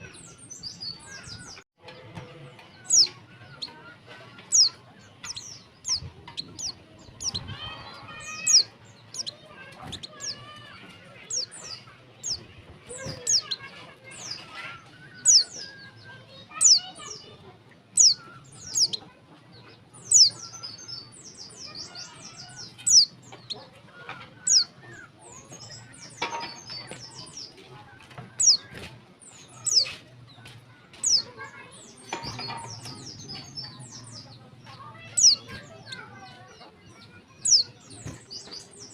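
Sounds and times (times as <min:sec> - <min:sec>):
bird sharp high chirps: 0:02.7 - 0:17.3, 0:17.9 - 0:19.2, 0:20.0 - 0:23.6, 0:24.3 - 0:27.5, 0:28.3 - 0:38.9
faint bird twittering: 0:02.7 - 0:38.9.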